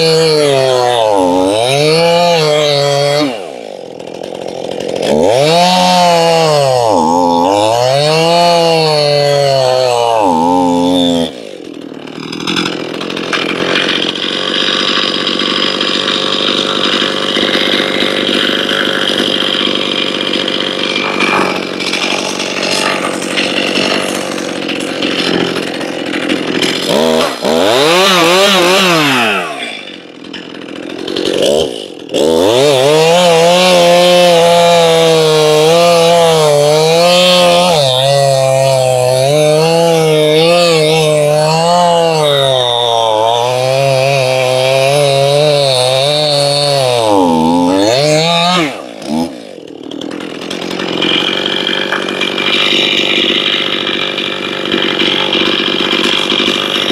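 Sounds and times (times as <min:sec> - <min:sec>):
chainsaw cutting log: 0:00.0 - 0:56.9
chainsaw running: 0:00.0 - 0:56.9.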